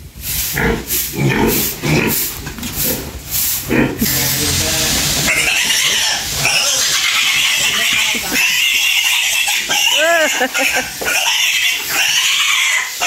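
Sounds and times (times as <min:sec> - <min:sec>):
steady hiss: 0:00.0 - 0:13.0
piglets grunting and squealing: 0:00.6 - 0:13.0.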